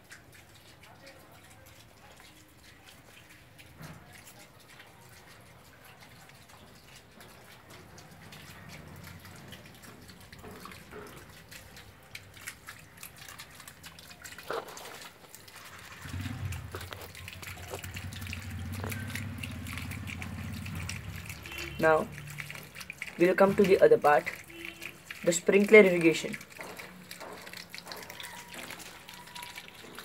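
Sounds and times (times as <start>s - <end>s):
water trickling and dripping: 0.0s - 30.0s.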